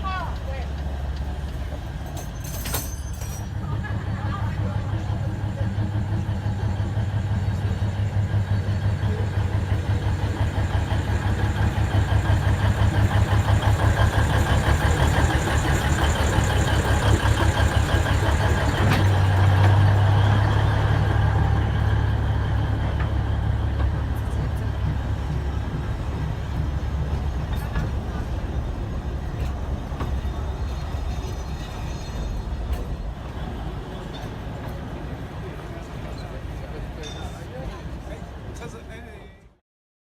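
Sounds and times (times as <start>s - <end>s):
locomotive engine running: 0.0s - 38.9s.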